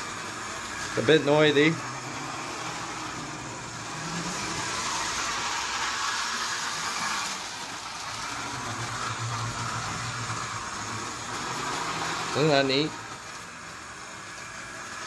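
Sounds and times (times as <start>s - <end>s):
toy train motor whirring: 0.0s - 15.0s.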